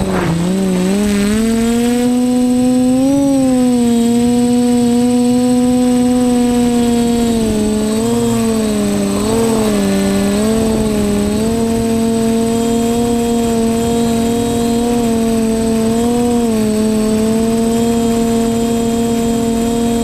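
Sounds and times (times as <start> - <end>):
drone motors humming: 0.0 - 20.0.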